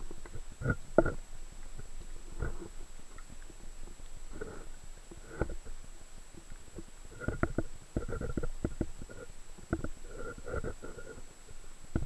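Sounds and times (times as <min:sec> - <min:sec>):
underwater thuds and gurgles: 0:00.0 - 0:05.8, 0:06.4 - 0:11.2
low hiss: 0:00.0 - 0:12.0.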